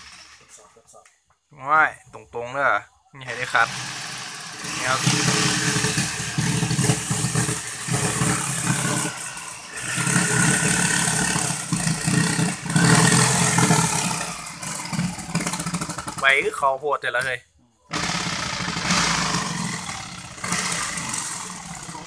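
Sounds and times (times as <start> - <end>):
jigsaw cutting: 0.0 - 0.6, 3.4 - 16.6, 17.9 - 22.0.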